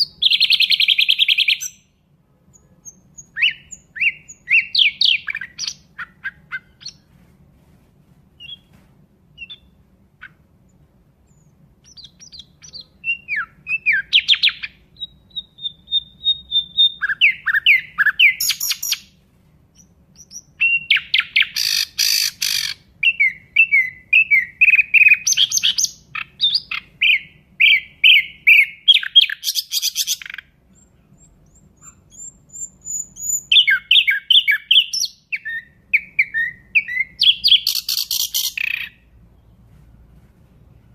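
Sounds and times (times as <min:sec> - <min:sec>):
nightingale singing: 0:00.0 - 0:07.1, 0:08.4 - 0:08.7, 0:09.4 - 0:19.2, 0:19.8 - 0:39.6.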